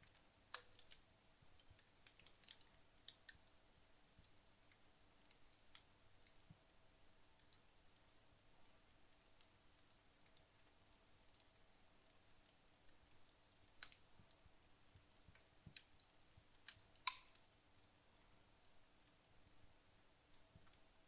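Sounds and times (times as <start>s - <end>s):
burning logs crackling: 0.0s - 6.8s, 9.1s - 19.4s.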